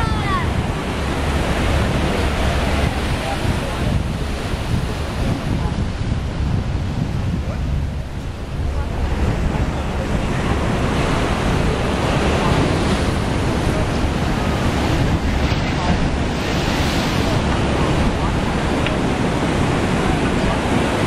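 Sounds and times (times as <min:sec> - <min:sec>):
surf washing over rocks: 0:00.0 - 0:21.0
wind buffeting microphone: 0:00.0 - 0:21.0.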